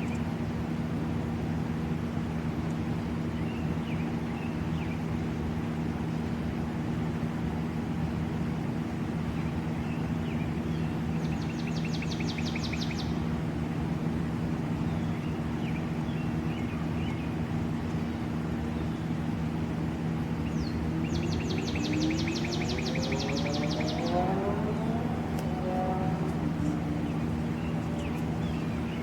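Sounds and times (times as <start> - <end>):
outdoor background noise: 0.0 - 29.0
steady low hum: 0.0 - 29.0.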